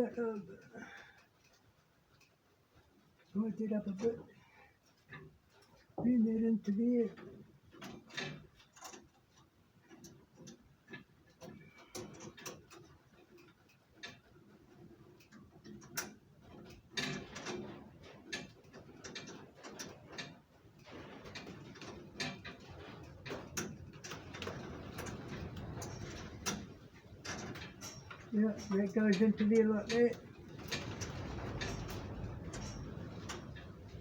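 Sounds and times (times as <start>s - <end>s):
rustling: 0.0s - 34.0s
small metallic clicks and taps: 1.2s - 34.0s.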